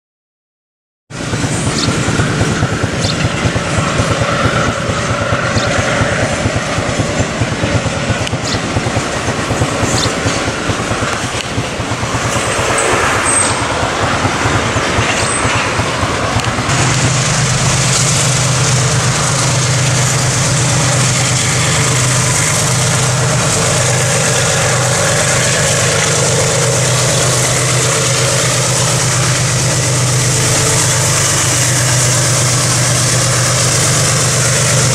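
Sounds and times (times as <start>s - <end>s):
diesel locomotives droning: 1.1s - 34.9s
train wagons clattering on rails: 1.2s - 34.9s.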